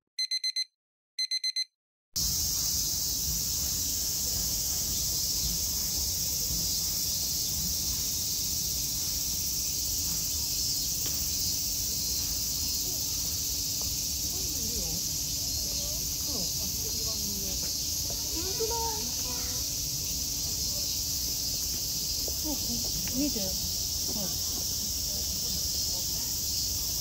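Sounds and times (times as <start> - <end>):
cicadas chorus: 2.2 - 27.0.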